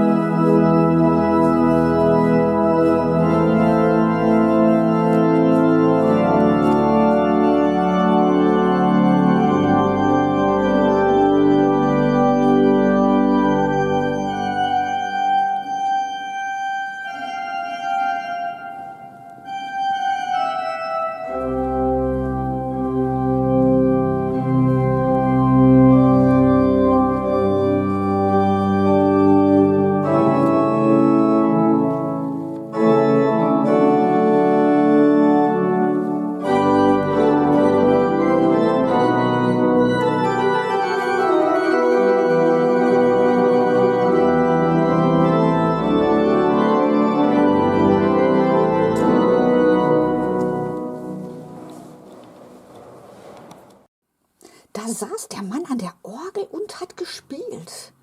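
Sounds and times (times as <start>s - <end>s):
pipe organ chords: 0.0s - 53.8s.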